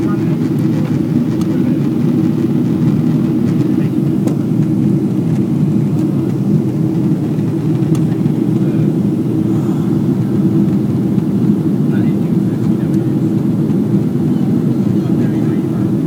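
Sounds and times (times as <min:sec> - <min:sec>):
airplane cabin engine drone: 0:00.0 - 0:16.0.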